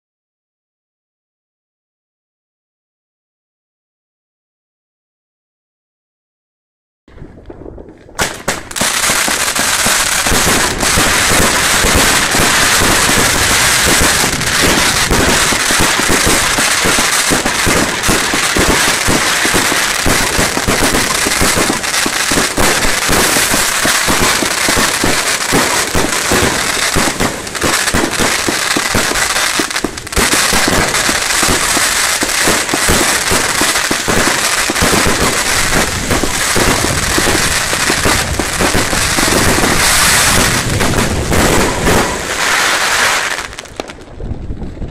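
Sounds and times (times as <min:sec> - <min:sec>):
firework barrage: 0:07.1 - 0:44.9.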